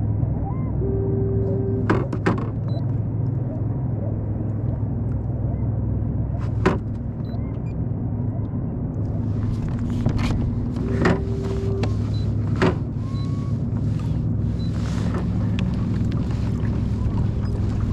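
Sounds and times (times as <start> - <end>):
engine droning: 0.0 - 17.9.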